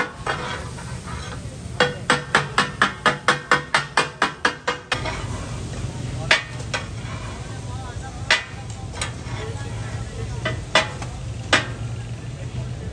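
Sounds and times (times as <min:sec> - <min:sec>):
metal spatulas clanging on griddle: 0:00.0 - 0:12.2.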